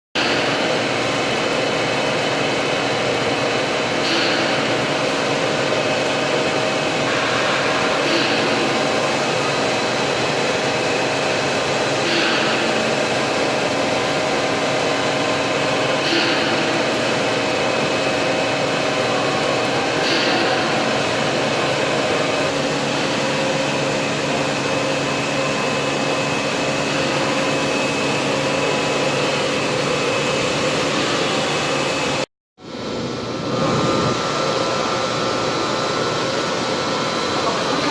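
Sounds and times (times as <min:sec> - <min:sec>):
floor-scrubbing machine running: 0:00.2 - 0:37.9.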